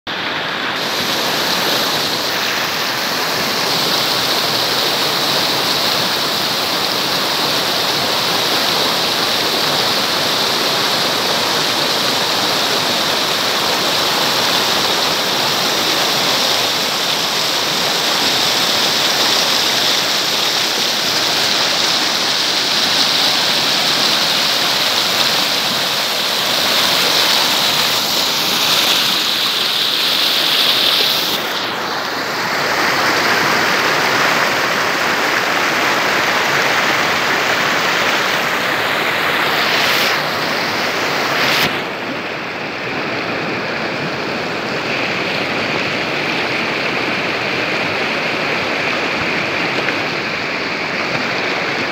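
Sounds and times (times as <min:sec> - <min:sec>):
river rushing over stones: 0:00.1 - 0:51.9.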